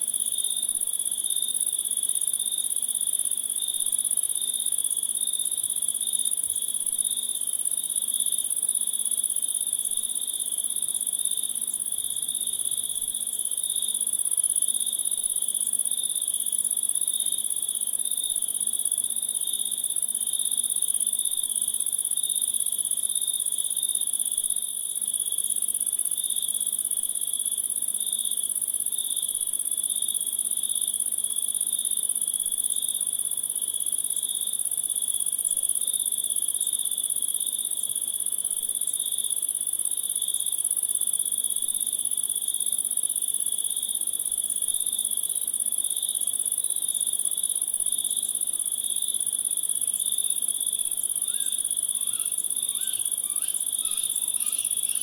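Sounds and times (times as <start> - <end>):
crickets chirping: 0.1 - 55.0.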